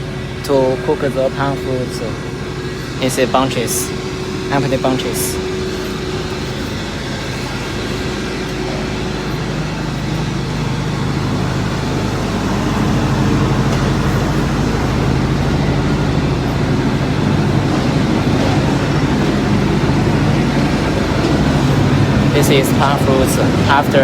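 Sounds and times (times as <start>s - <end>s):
machinery motor hum: 0.0s - 24.0s.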